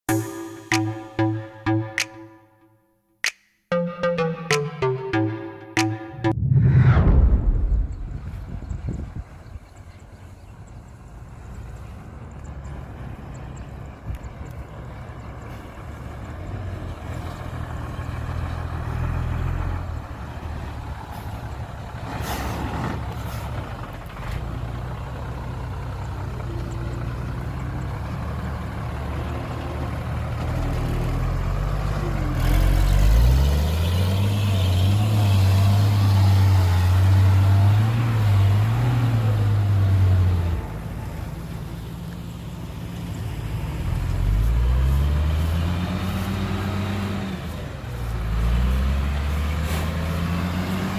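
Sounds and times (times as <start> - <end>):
diesel engine revving: 6.3 - 50.9.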